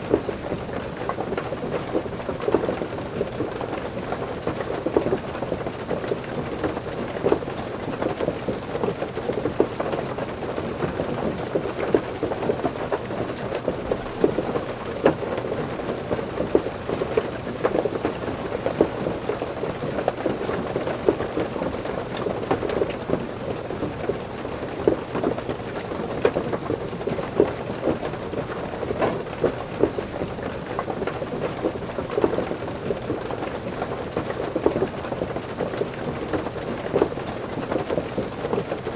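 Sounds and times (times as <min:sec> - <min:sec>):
heavy rain drumming on a roof: 0:00.0 - 0:38.9.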